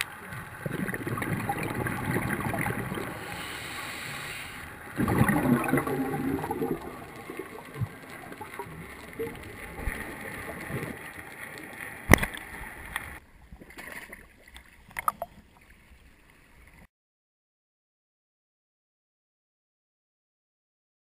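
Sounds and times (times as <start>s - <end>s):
underwater water and bubbles gurgling: 0.0s - 16.9s.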